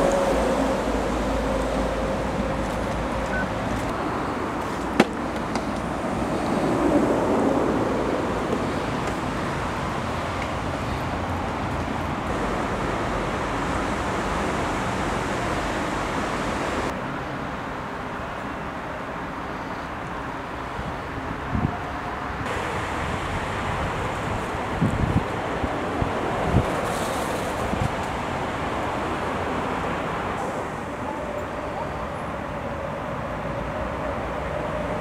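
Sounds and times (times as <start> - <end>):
motorway traffic rumble: 0.0 - 35.0.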